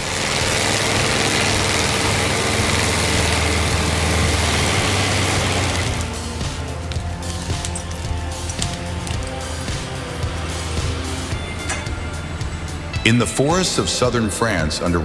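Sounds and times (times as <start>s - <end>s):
low engine hum: 0.0s - 13.1s
mulcher grinding wood: 0.0s - 15.0s.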